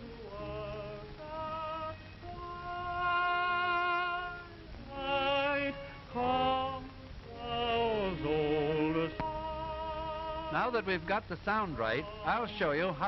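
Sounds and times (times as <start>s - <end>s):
operatic singing with vibrato: 0.0s - 13.0s.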